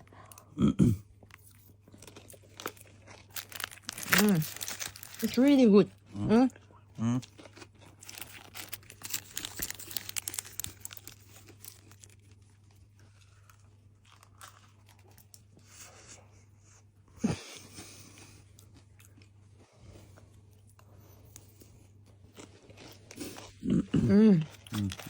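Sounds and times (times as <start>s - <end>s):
faint low hum: 0.0s - 25.0s
pastry crunching while chewed: 1.1s - 16.2s, 17.6s - 25.0s.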